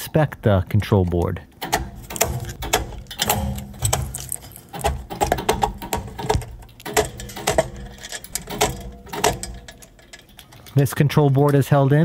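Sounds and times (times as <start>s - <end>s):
pliers tapping and scraping metal: 1.0s - 11.6s
metal connectors clicking and rattling: 1.0s - 12.0s.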